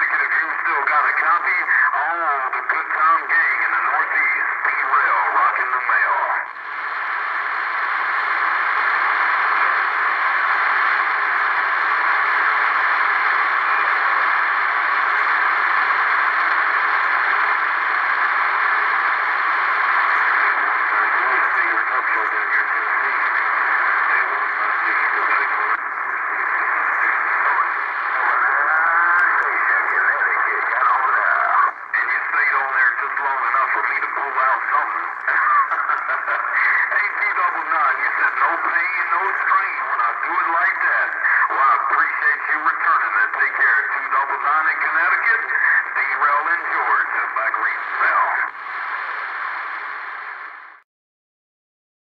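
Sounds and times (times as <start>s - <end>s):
wavering radio voice transmission: 0.0s - 50.1s
radio static hiss: 0.0s - 50.8s.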